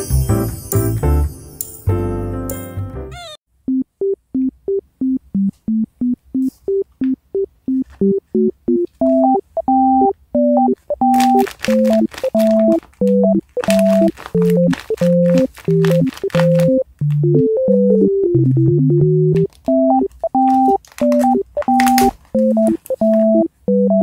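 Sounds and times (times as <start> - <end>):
bouncy synthesizer music: 3.1 - 24.0
ticking beat: 3.6 - 24.0.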